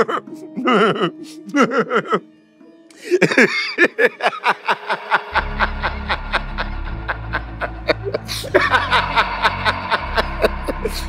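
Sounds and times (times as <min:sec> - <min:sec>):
man laughing and snickering: 0:00.0 - 0:02.3, 0:03.0 - 0:11.0.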